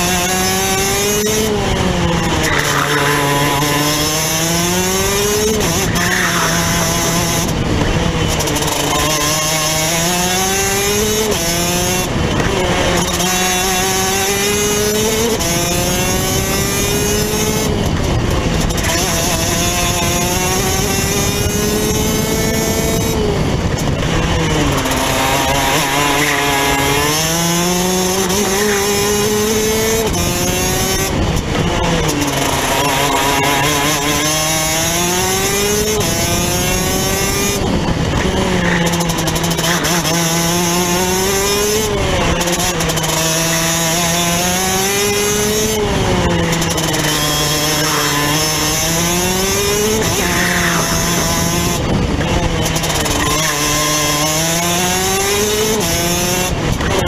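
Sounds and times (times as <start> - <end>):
two-stroke kart engine revving: 0.0 - 57.0.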